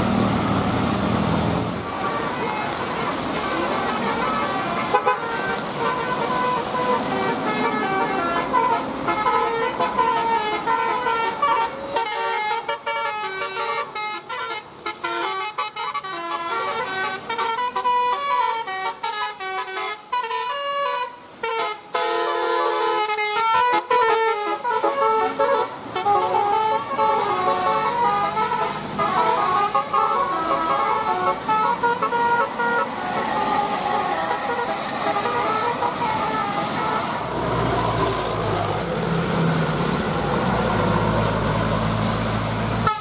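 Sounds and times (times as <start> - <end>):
multi-tone bus horn melody: 1.5 - 43.0.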